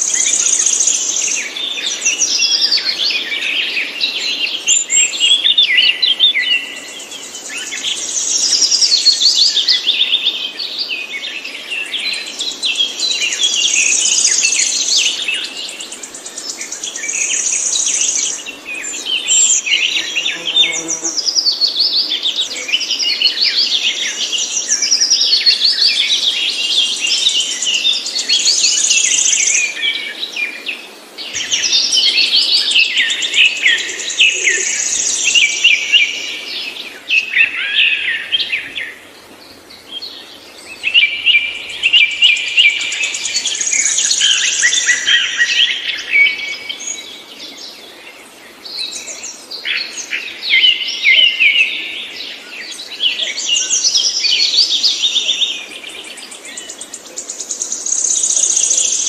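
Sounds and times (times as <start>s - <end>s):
songbird twittering: 0.0s - 10.7s, 11.8s - 59.0s.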